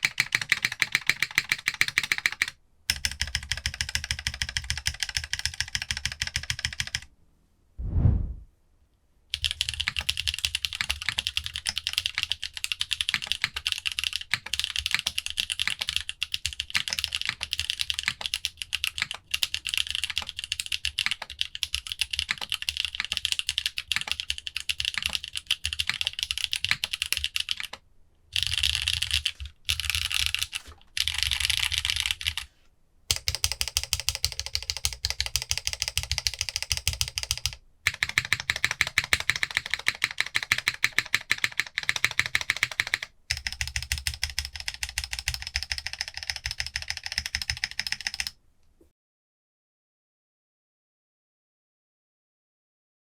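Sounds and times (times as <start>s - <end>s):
mechanical keyboard typing: 0.0s - 7.1s, 9.4s - 27.8s, 28.4s - 32.5s, 33.1s - 48.4s.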